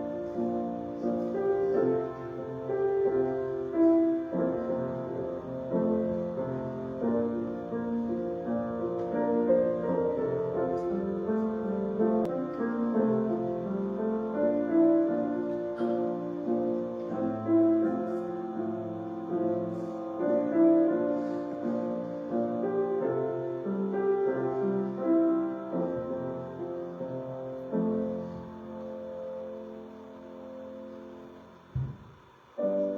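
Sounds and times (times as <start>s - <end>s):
slow piano music: 0.0s - 32.9s.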